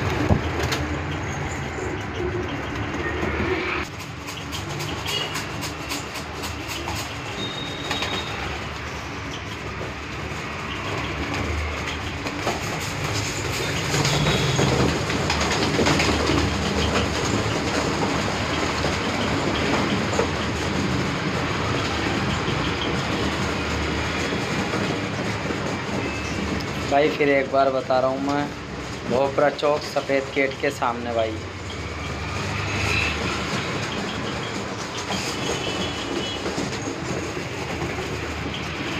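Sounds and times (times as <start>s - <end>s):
pigeon wings flapping: 0.0s - 1.1s, 1.9s - 27.2s, 31.6s - 38.9s.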